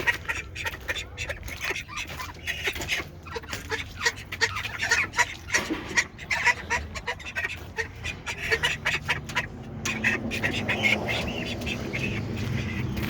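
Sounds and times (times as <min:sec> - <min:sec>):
farmyard fowl calling: 0:00.0 - 0:13.0.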